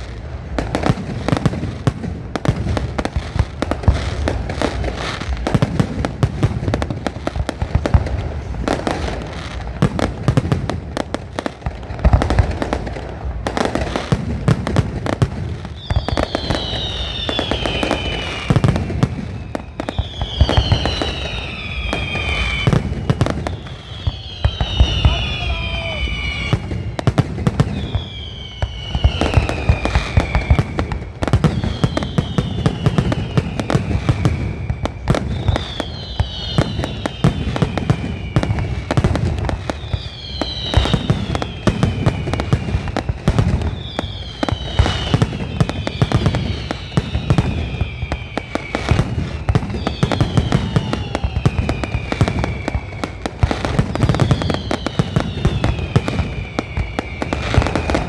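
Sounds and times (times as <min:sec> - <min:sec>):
falling firework whistle: 0:00.0 - 0:58.0
fireworks bangs and crackles: 0:00.0 - 0:58.0.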